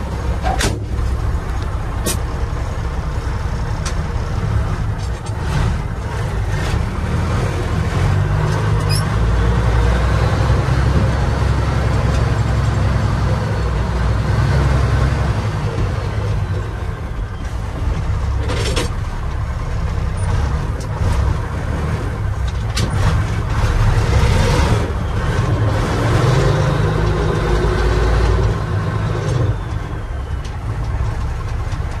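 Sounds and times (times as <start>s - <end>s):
diesel truck engine rumble: 0.0s - 32.0s.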